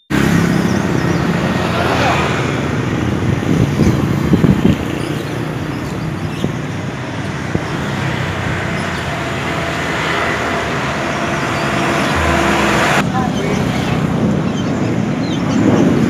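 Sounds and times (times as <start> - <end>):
passing motor vehicles rumbling: 0.1 - 16.0.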